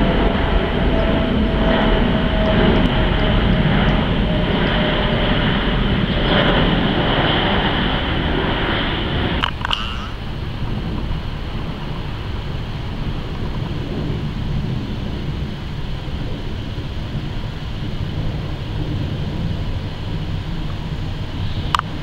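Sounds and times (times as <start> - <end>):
jet airliner flying overhead: 0.0 - 22.0.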